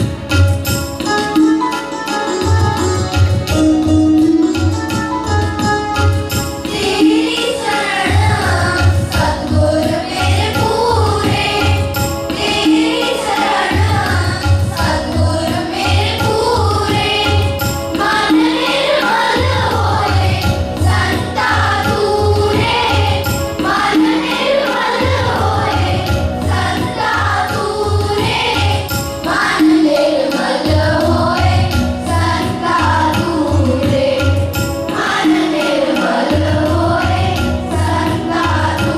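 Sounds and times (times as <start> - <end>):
instrumental accompaniment: 0.0 - 38.9
repeating drum beat: 0.0 - 38.9
children singing a hymn: 6.6 - 38.9.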